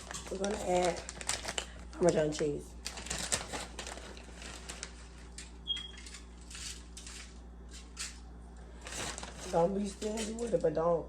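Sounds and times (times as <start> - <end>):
cheese clicking and rustling: 0.0 - 10.6.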